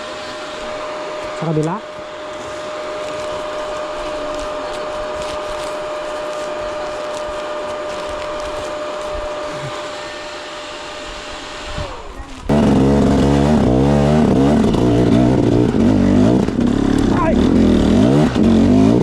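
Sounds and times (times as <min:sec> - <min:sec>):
dirt bike engine whine: 0:00.0 - 0:19.0.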